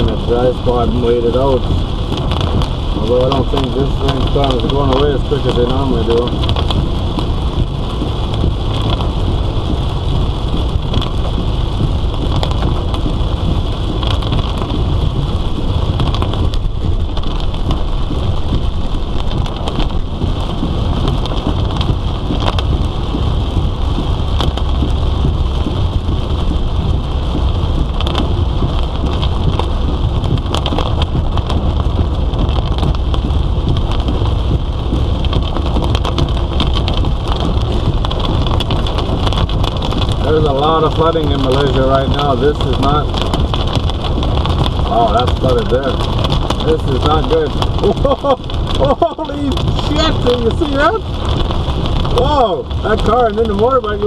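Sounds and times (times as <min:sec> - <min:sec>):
car rumble on wet road: 0:00.0 - 0:54.0
heavy rain pelting a car: 0:00.0 - 0:54.0.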